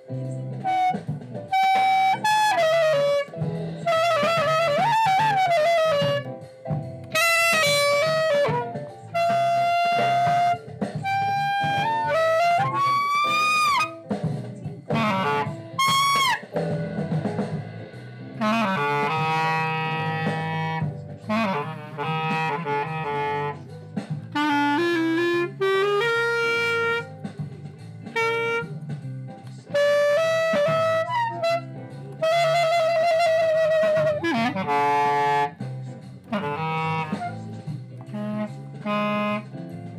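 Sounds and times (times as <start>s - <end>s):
clarinet playing held notes: 0.3s - 6.4s, 7.0s - 14.1s, 14.9s - 16.6s, 18.3s - 27.2s, 28.0s - 28.8s, 29.6s - 35.6s, 36.2s - 39.9s.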